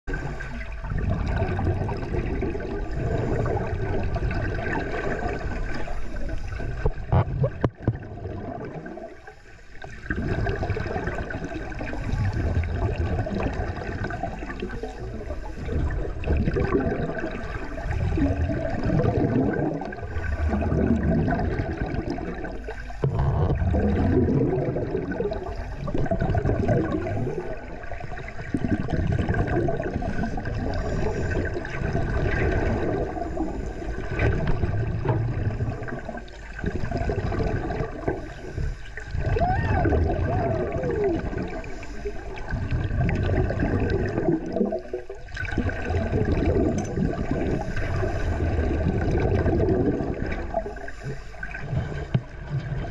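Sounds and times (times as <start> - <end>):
underwater sloshing and bubbles: 0.0 - 52.9.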